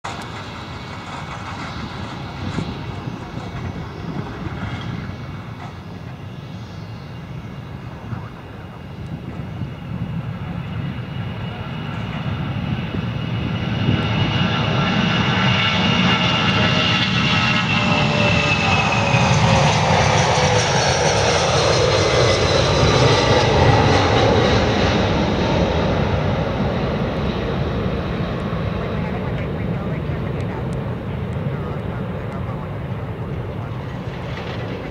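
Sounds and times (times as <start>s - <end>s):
jet engines at takeoff: 0.0s - 34.9s.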